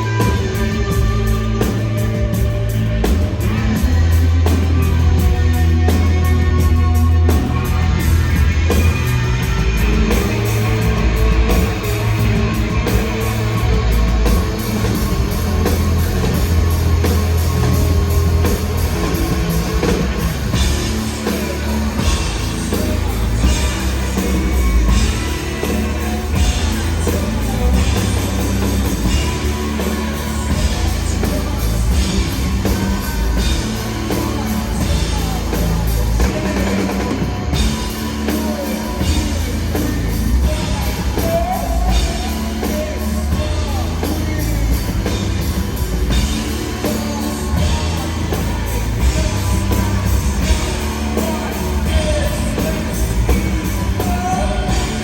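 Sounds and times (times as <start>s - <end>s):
bass: 0.0s - 55.0s
drum kit: 0.0s - 55.0s
electric guitar: 0.0s - 55.0s
person singing: 0.0s - 55.0s.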